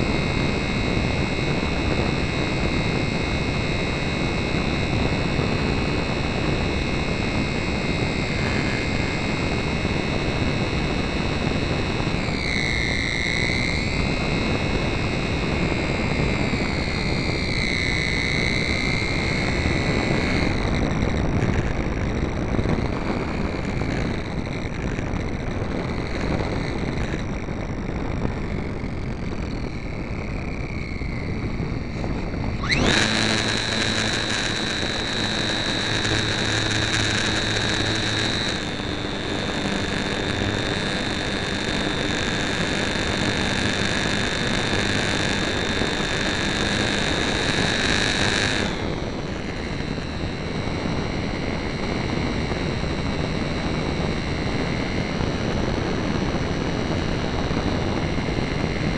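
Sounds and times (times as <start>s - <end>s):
model airplane motor whining: 0.0s - 58.9s
wind rushing over microphone: 0.0s - 58.9s.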